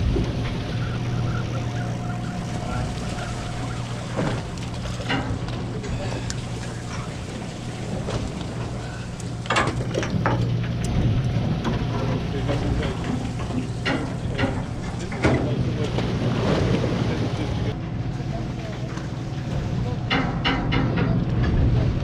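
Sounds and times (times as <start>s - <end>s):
knocks and splashes: 0.0s - 17.8s, 19.4s - 22.0s
boat engine drone: 0.0s - 22.0s
water noise: 0.0s - 22.0s
wind: 0.0s - 22.0s.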